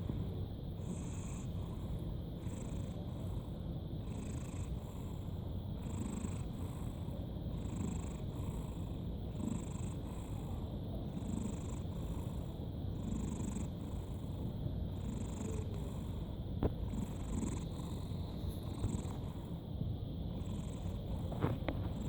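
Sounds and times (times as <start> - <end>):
cat snoring softly: 0.0 - 22.0.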